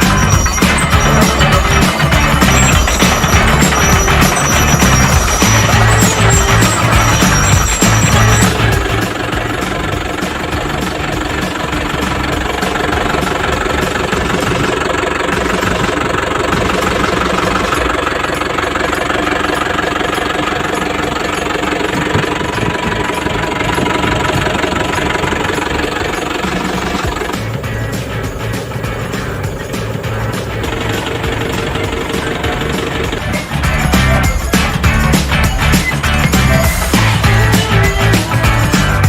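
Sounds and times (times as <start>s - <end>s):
excavator diesel engine idling: 0.0s - 39.0s.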